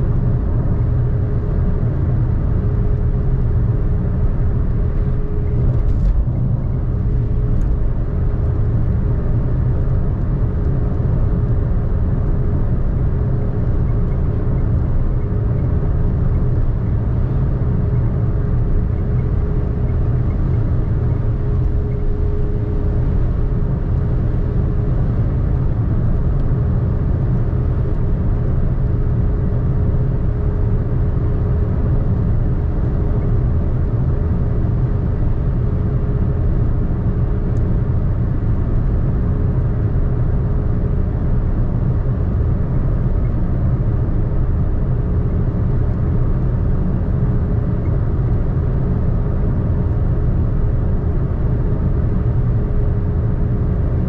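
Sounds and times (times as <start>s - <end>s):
car road rumble: 0.0s - 54.0s.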